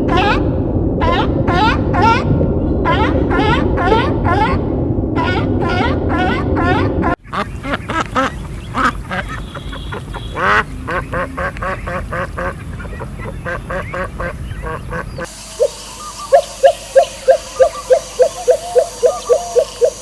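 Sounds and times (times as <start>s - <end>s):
chickens calling: 0.0s - 4.6s, 5.2s - 20.0s.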